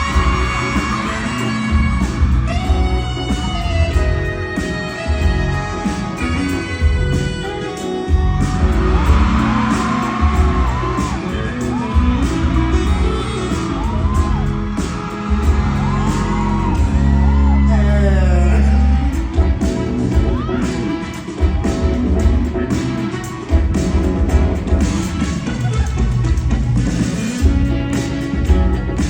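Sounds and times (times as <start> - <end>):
crowd whooping and yelling: 0.0 - 29.0
live band playing pop music: 0.0 - 29.0.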